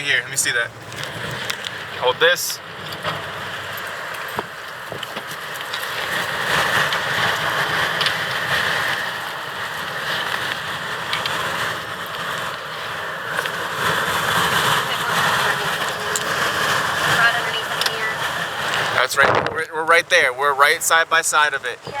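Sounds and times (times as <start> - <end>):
rushing wind: 0.0 - 22.0.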